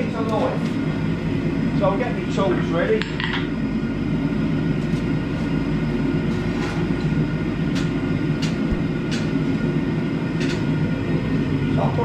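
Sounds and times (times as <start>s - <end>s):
forge furnace roaring: 0.0s - 12.0s.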